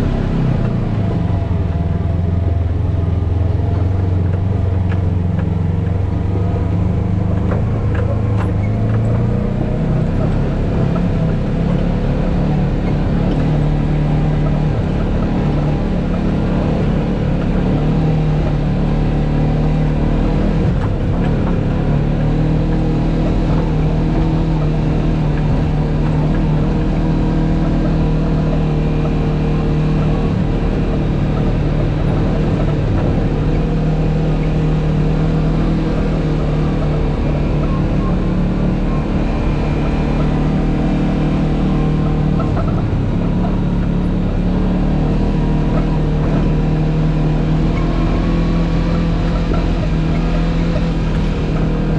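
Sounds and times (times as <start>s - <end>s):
vehicle engine droning: 0.0s - 51.9s.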